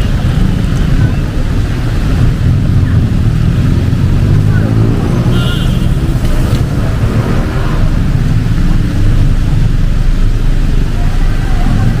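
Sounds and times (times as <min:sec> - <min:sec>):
rain hissing on wet road: 0:00.0 - 0:12.0
traffic rumbling: 0:00.0 - 0:12.0.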